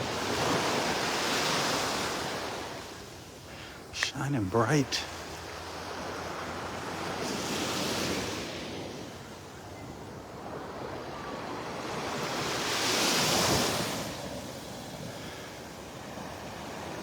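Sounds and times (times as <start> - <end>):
waves washing up sand: 0.0 - 9.2, 10.4 - 17.0.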